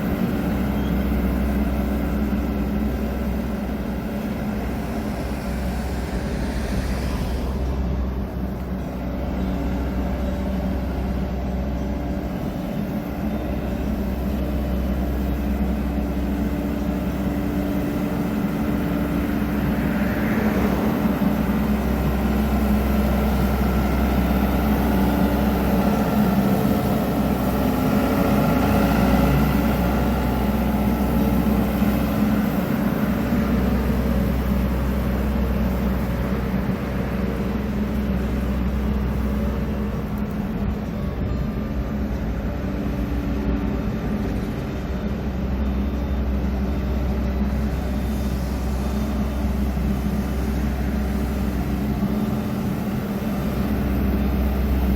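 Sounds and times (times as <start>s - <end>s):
engine humming: 0.0s - 54.9s.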